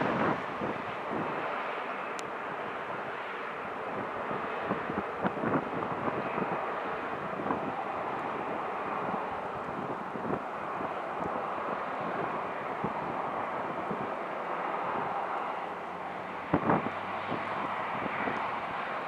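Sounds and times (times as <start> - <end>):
jet engines rushing: 0.0 - 19.0
wind buffeting microphone: 0.0 - 19.0.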